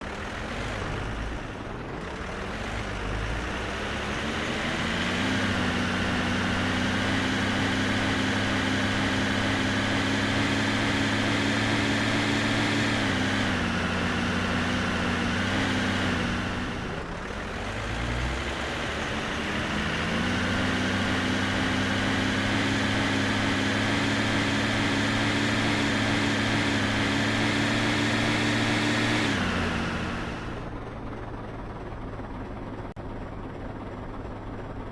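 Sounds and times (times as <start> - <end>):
truck engine running: 0.0 - 34.9.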